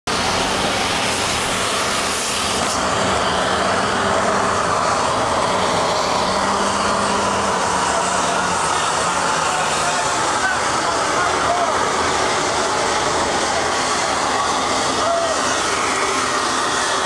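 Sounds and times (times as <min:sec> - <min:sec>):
jet engines running: 0:00.1 - 0:17.0.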